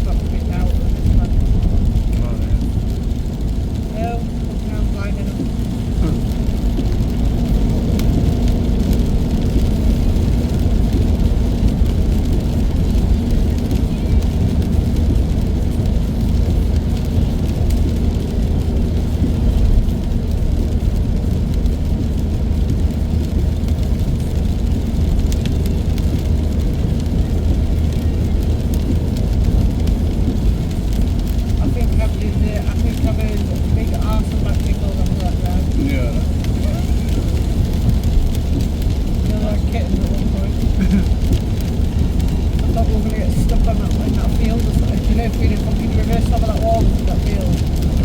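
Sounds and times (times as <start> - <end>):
car engine and tyre noise: 0.0 - 48.0.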